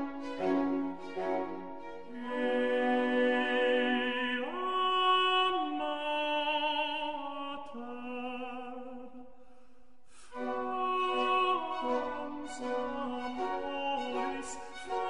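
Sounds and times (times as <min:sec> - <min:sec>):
slow classical music: 0:00.0 - 0:09.3, 0:10.0 - 0:15.0.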